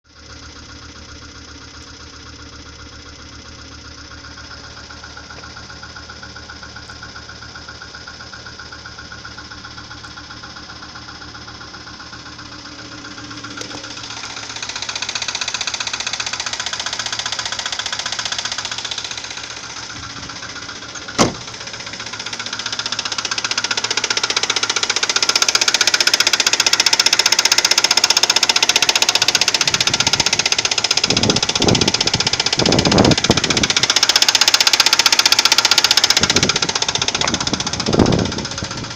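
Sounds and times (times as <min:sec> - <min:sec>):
car engine knocking: 0:00.1 - 0:38.9.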